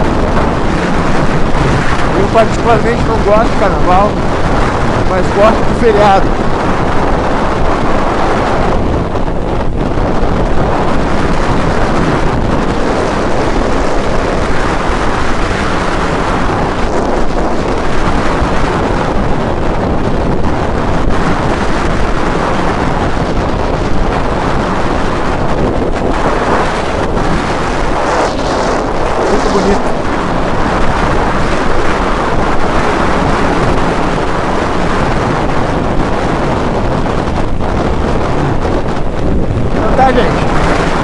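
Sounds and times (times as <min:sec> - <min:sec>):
motorcycle road noise: 0:00.0 - 0:41.0
wind buffeting microphone: 0:00.0 - 0:41.0.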